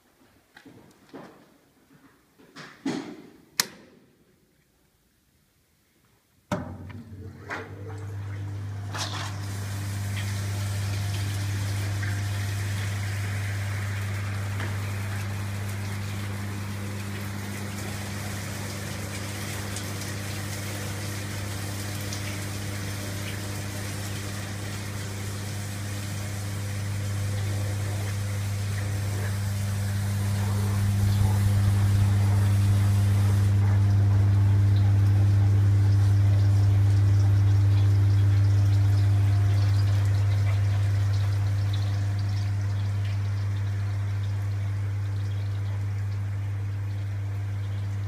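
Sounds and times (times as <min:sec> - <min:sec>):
fan motor hum: 0:06.5 - 0:48.0.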